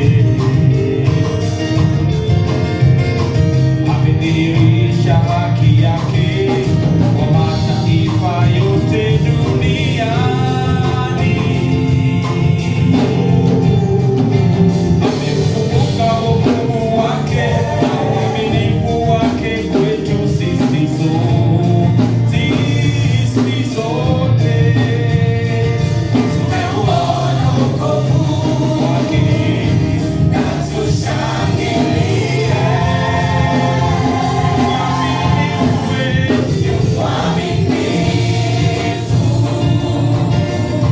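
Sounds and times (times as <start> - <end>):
gospel singers: 0.0 - 40.9
steady bass accompaniment: 0.0 - 40.9.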